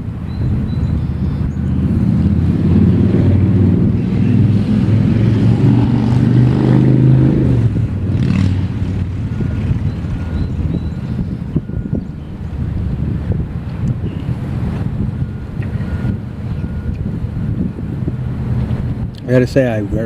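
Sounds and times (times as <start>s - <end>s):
vehicle engine running: 1.2s - 19.1s.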